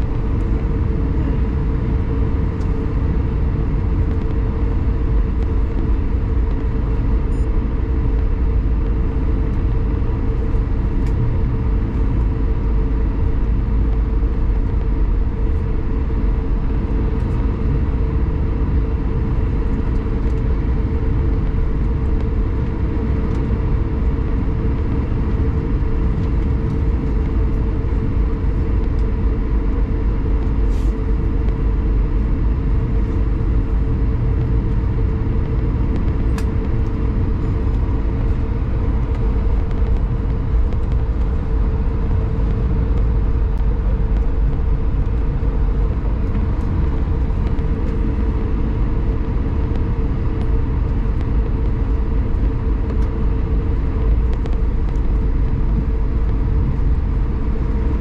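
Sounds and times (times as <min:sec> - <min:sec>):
aircraft cabin engine rumble: 0:00.0 - 0:58.0.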